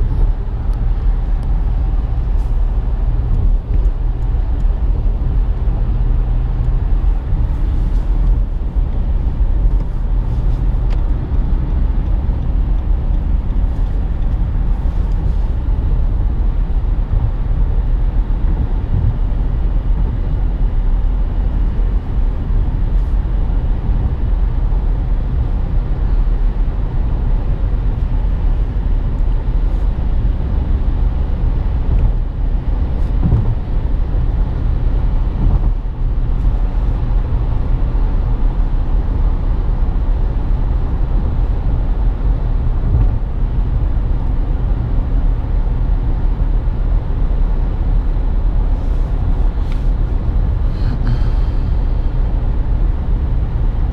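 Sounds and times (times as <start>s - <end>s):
tyres rumbling on road: 0.0s - 53.9s.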